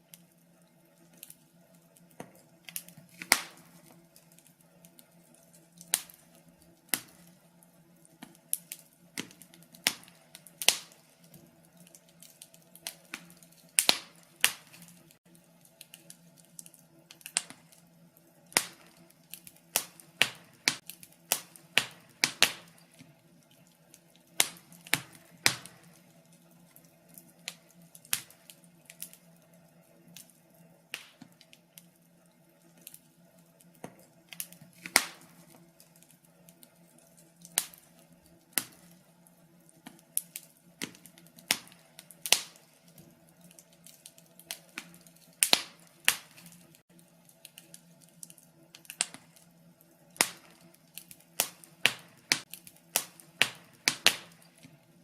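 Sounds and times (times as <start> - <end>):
faint steady hum: 0.0 - 55.0
fire crackling in fireplace: 0.0 - 55.0.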